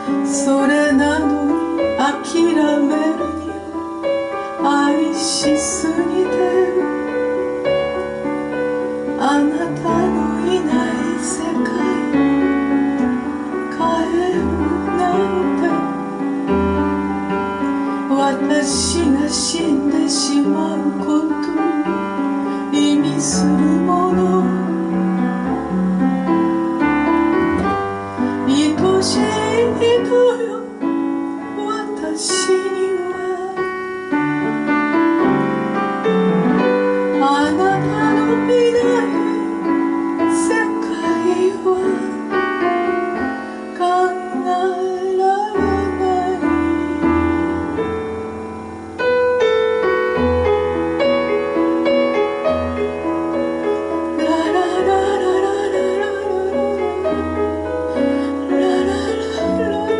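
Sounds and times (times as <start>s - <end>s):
woman singing: 0.0s - 16.6s, 17.3s - 25.3s, 26.3s - 35.4s, 36.6s - 48.0s, 53.3s - 59.9s
piano accompaniment: 0.0s - 59.9s.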